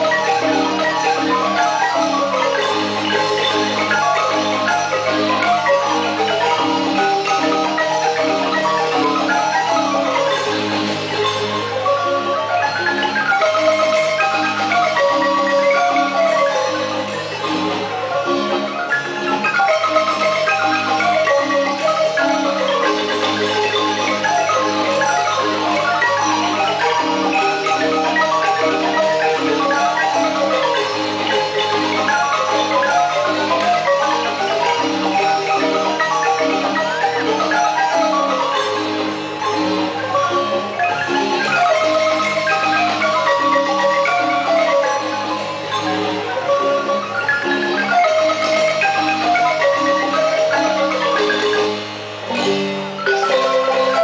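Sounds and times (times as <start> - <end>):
marimba ensemble playing: 0.0 - 54.0.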